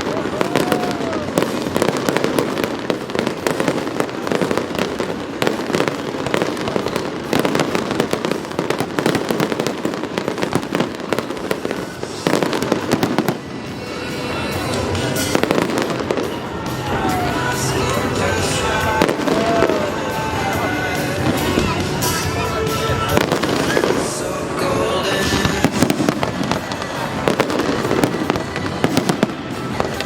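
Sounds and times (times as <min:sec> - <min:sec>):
fireworks bangs and crackles: 0:00.0 - 0:30.0
music with held notes: 0:00.0 - 0:30.0.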